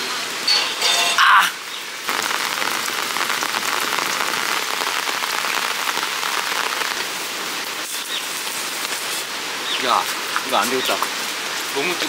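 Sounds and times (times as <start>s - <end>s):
steady rain patter: 0.0s - 12.0s.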